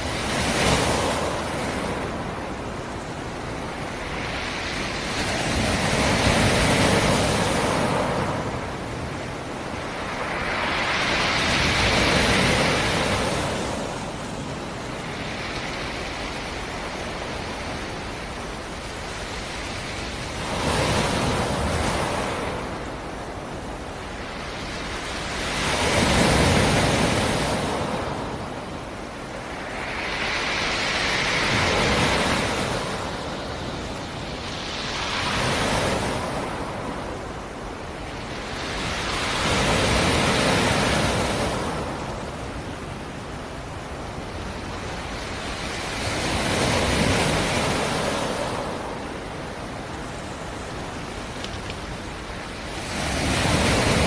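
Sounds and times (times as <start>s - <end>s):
waves washing in and out: 0.0s - 54.0s.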